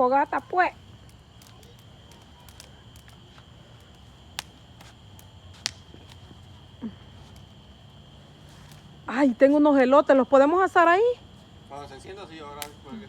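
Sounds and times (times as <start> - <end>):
fire pops and snaps: 0.0 - 9.5, 11.4 - 13.0
campfire crackling: 0.0 - 13.0.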